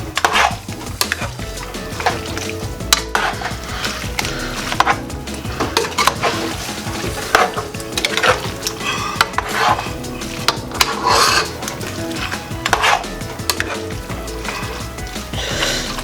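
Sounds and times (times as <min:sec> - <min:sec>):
spoon scraping and clinking pot: 0:00.0 - 0:16.0.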